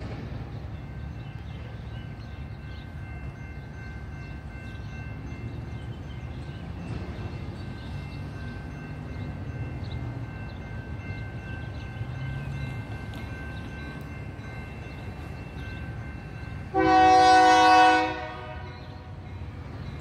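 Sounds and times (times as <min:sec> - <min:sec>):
locomotive engine rumble: 0:00.0 - 0:20.0.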